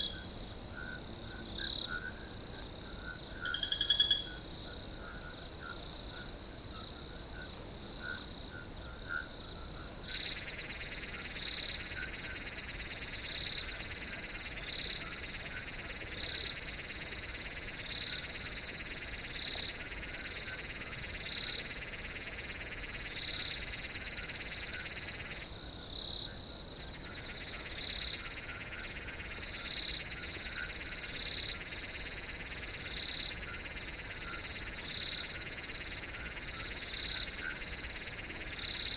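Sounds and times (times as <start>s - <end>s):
crickets trilling and chirping: 0.0s - 38.9s
lower buzzing insect chorus: 0.0s - 38.9s.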